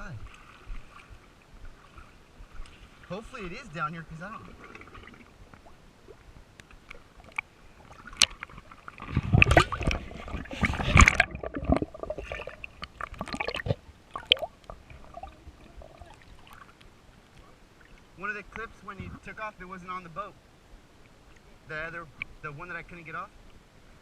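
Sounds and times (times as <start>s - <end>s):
water splashing and sloshing: 0.0s - 19.2s.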